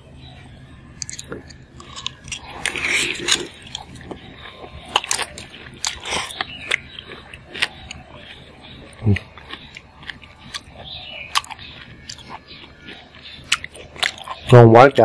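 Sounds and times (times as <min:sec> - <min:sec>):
chewing and biting: 0:01.0 - 0:14.6.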